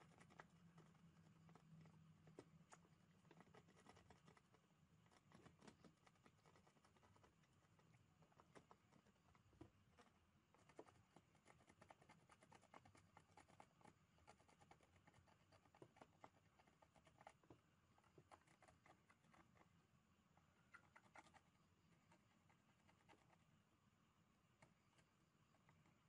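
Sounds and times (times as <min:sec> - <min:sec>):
small clicks and scratches: 0:00.0 - 0:19.8, 0:20.4 - 0:23.5, 0:24.5 - 0:26.0.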